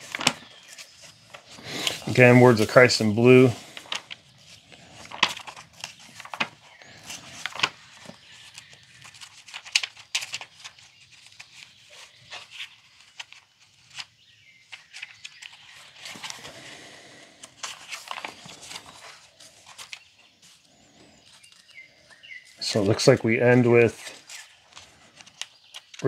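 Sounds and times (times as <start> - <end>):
book pages turning: 0.0 - 26.0.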